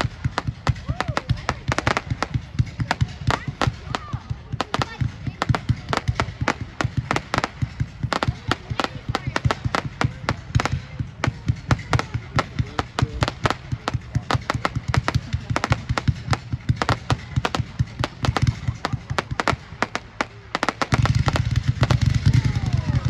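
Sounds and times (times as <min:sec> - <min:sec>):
fireworks reports and crackles: 0:00.0 - 0:23.0.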